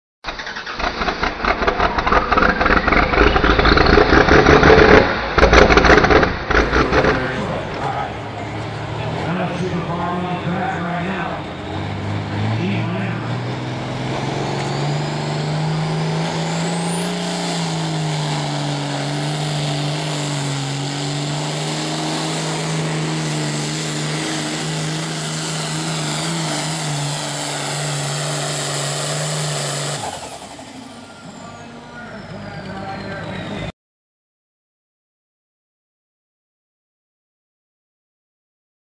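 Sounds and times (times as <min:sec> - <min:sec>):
tractor diesel engine at full power: 0:00.2 - 0:33.7.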